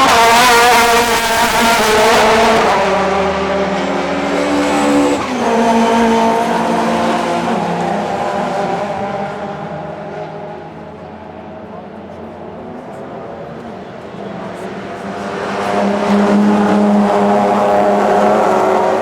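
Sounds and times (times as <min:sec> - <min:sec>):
racing car engines at high revs: 0:00.0 - 0:19.0.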